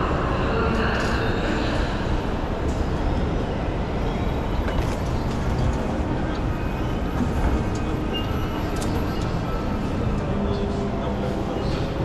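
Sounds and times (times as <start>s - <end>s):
low rumble of station concourse: 0.0s - 12.0s.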